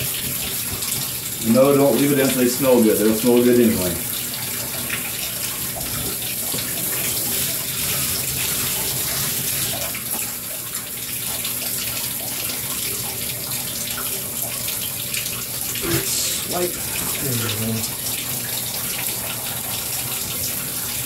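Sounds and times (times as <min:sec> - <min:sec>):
shower water rushing: 0:00.0 - 0:21.0.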